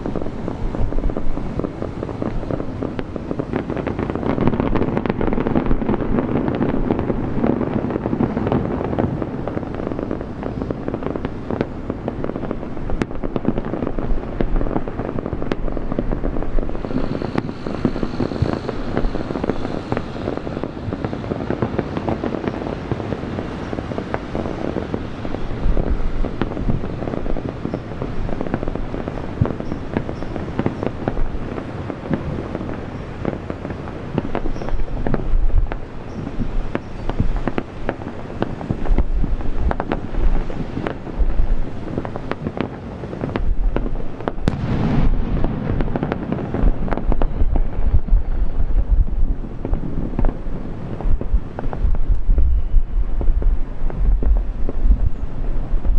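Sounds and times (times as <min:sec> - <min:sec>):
deep firework booms: 0:00.0 - 0:55.9
fireworks crackling: 0:00.0 - 0:55.9.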